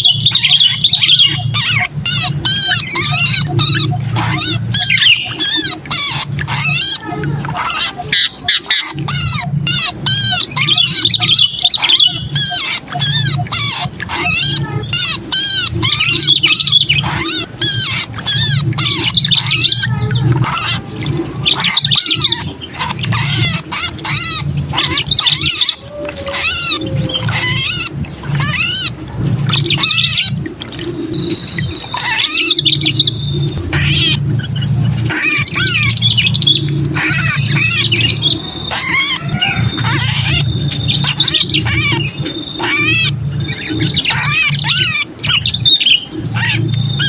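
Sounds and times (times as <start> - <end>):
bird distress calls chattering: 0.0 - 47.0
steady low hum: 0.0 - 47.0.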